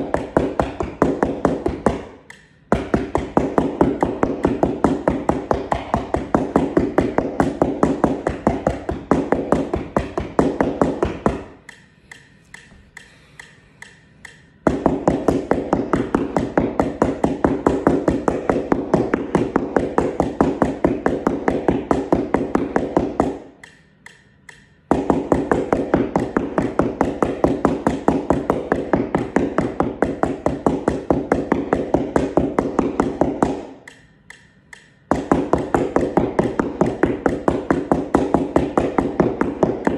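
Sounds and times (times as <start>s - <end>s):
mallets tapping on a mat: 0.0s - 39.9s.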